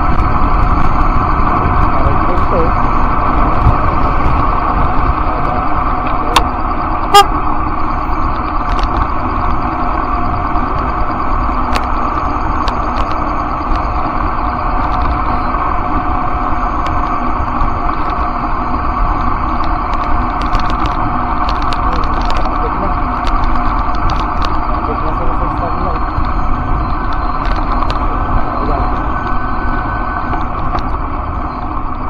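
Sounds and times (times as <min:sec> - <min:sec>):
steady multi-tone hum: 0:00.0 - 0:32.0
wind and road rumble: 0:00.0 - 0:32.0.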